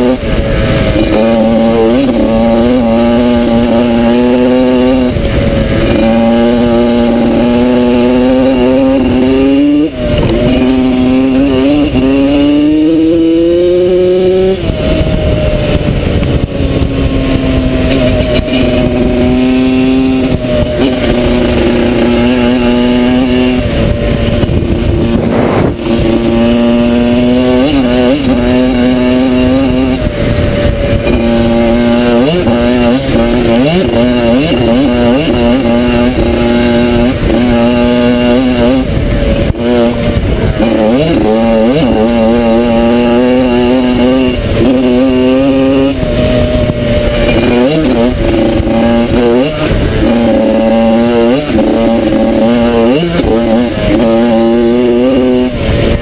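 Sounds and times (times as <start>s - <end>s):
dirt bike engine revving: 0.0s - 56.0s
wind and trail noise rumble: 0.0s - 56.0s.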